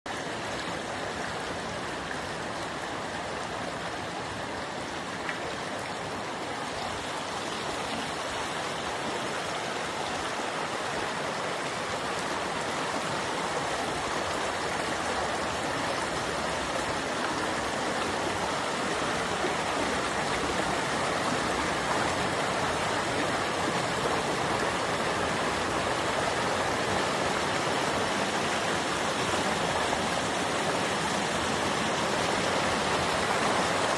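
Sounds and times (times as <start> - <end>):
stream water over rocks: 0.1 - 33.9.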